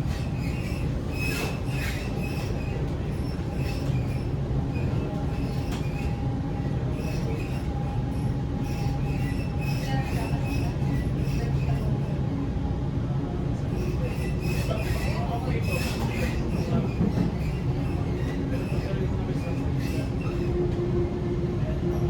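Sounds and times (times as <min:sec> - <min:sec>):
wheel squeals: 0:00.0 - 0:12.1, 0:13.7 - 0:20.8
constant electric hum: 0:00.0 - 0:22.0
train wheels rumbling on track: 0:00.0 - 0:22.0.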